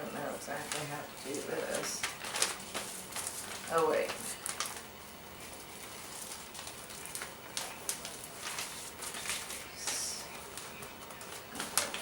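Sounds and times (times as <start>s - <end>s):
wrapping paper rustling: 0.0s - 12.0s.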